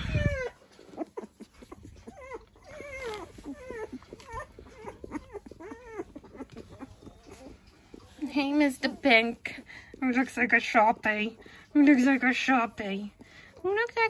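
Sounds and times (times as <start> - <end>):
puppies squeaking and whimpering: 0.0 - 13.9.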